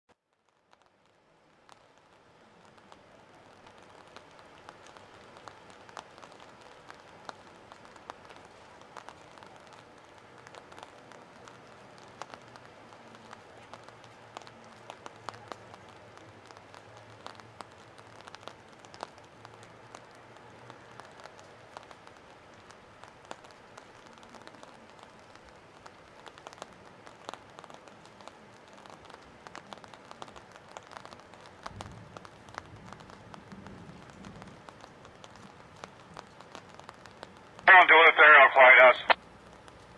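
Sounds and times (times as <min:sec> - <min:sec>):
rain falling: 0:00.2 - 0:39.9.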